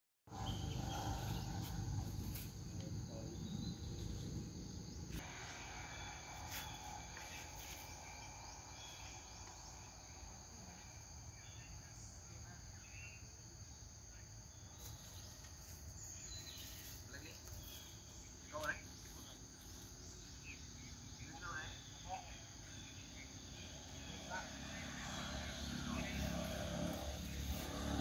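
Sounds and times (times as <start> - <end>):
insect chorus: 0.3 - 28.0.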